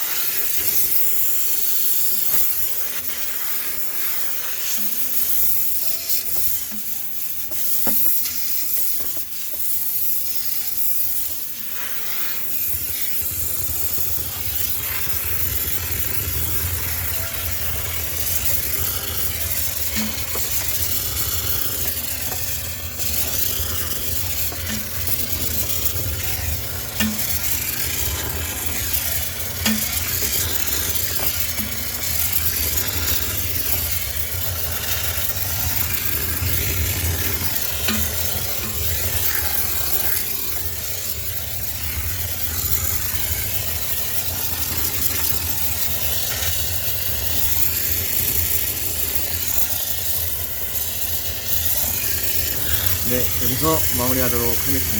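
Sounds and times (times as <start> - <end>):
pressure washer spray hissing: 0.0 - 54.9.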